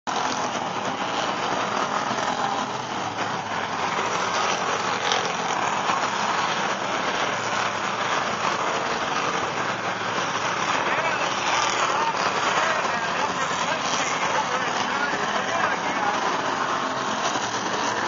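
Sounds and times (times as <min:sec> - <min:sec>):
race car engines: 0:00.1 - 0:18.0.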